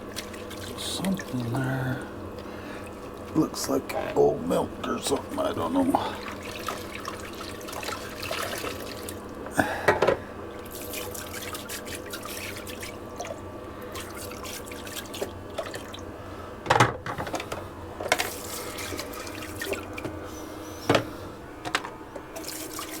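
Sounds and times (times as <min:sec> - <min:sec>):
water running in a sink: 0:00.0 - 0:23.0.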